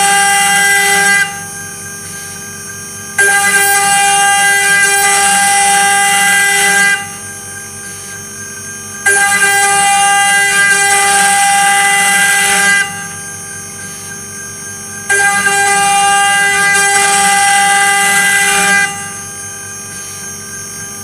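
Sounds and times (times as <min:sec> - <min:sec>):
router spindle cutting whine: 0:00.0 - 0:21.0
spindle spinning whine: 0:00.0 - 0:21.0.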